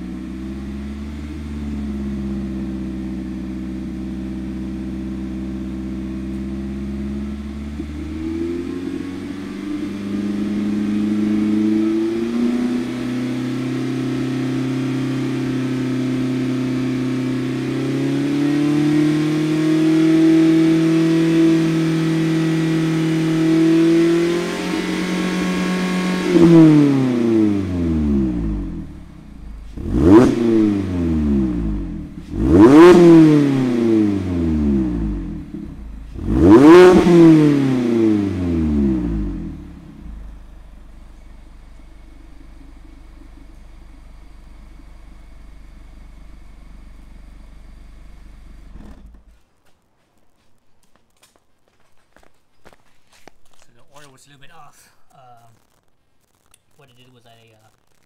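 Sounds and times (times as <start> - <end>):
car engine revving: 0.0 - 49.4
car exhaust at steady revs: 0.0 - 49.4.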